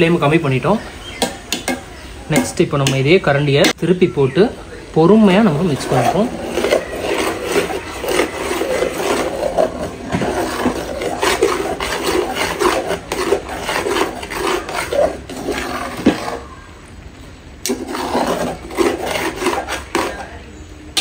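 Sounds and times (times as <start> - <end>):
metal ladle scraping rice in pot: 0.3 - 3.8, 5.0 - 16.5, 17.6 - 20.4.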